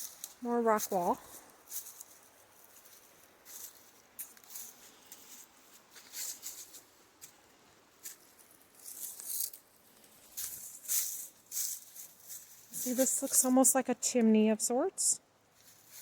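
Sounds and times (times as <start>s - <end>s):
footsteps crunching on loose ground: 0.0s - 7.4s, 8.0s - 13.5s.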